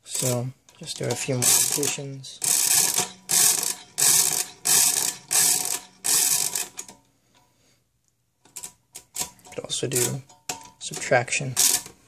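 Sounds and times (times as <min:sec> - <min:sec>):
mechanical calculator crank clatter: 0:00.1 - 0:07.0, 0:08.6 - 0:12.0.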